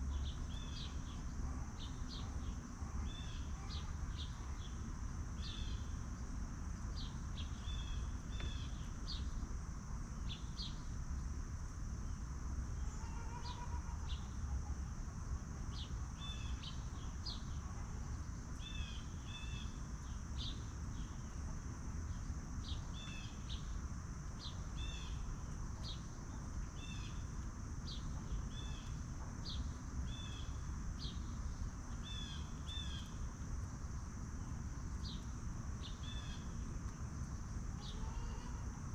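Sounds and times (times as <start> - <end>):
high insect drone: 0.0 - 38.9
low outdoor rumble: 0.0 - 38.9.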